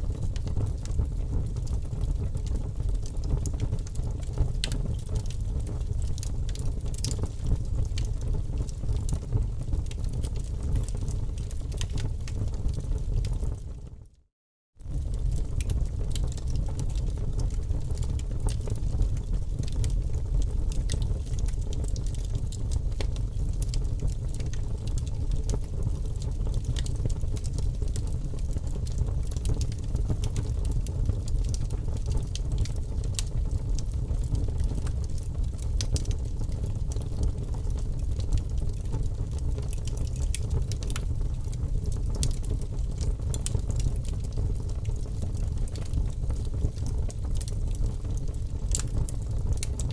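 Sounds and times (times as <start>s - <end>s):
small crackles and pops: 0.0s - 14.2s, 14.8s - 49.9s.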